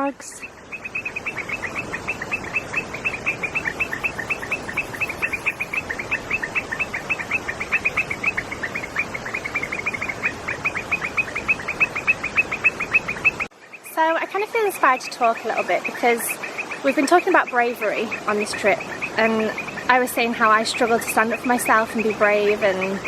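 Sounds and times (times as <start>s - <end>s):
frogs chirping: 0.0s - 23.0s
steady background hiss: 0.0s - 23.0s.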